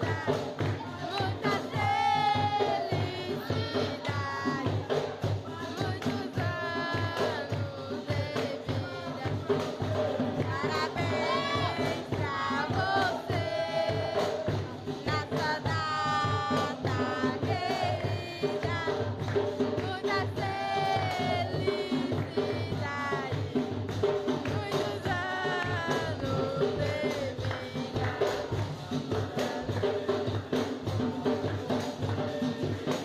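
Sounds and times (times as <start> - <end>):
drum and hand percussion: 0.0 - 33.0.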